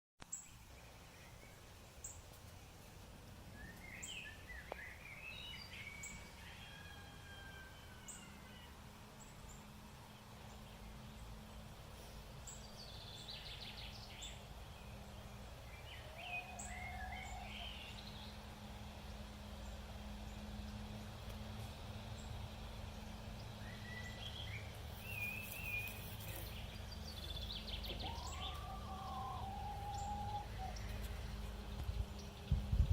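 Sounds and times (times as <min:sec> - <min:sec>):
low steady hum: 0:00.3 - 0:32.9
birds singing: 0:03.5 - 0:32.9.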